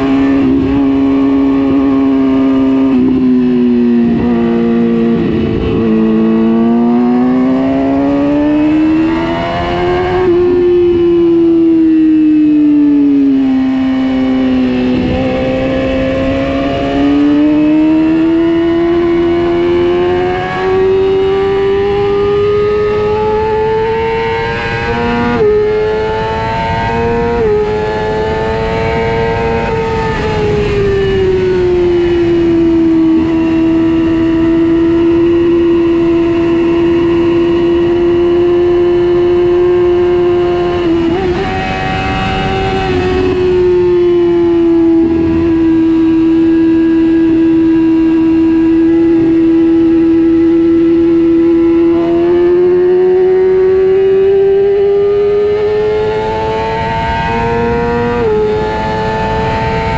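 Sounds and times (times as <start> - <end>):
racing motorcycle engine: 0.0 - 59.9.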